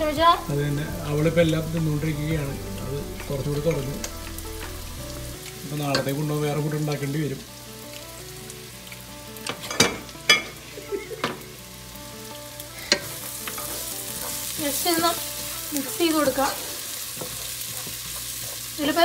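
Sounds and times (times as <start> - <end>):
curry sizzling in a pot: 0.0 - 19.0.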